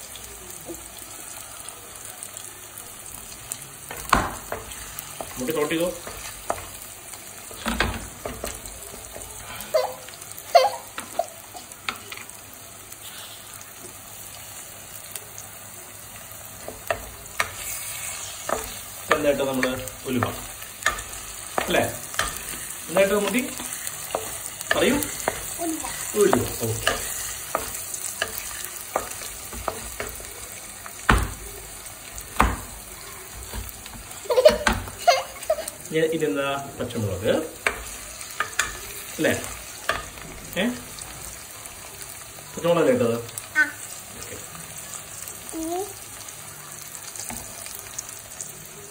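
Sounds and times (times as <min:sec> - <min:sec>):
aromatics sizzling in oil: 0:00.0 - 0:48.9.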